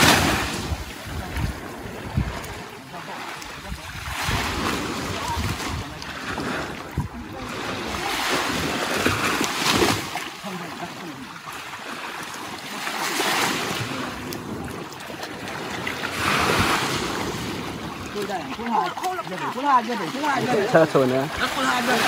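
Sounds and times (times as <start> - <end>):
wind buffeting microphone: 0.0 - 10.2, 13.5 - 22.0
small waves breaking on sand: 0.0 - 22.0.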